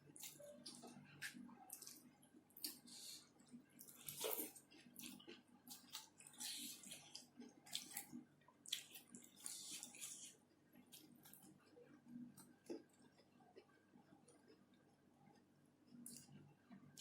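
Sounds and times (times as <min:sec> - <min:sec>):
wet chewing and lip smacking: 0:00.2 - 0:14.7.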